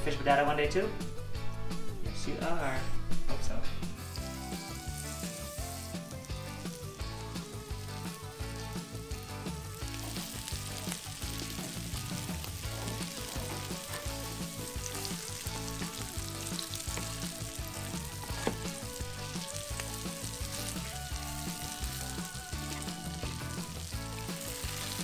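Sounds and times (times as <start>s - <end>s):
fish fillets sizzling in frying pan: 4.0s - 25.0s.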